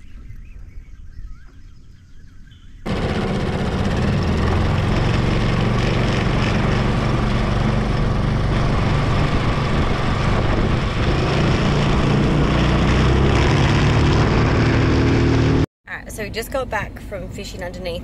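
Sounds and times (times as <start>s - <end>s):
outboard motor running: 2.8s - 18.0s.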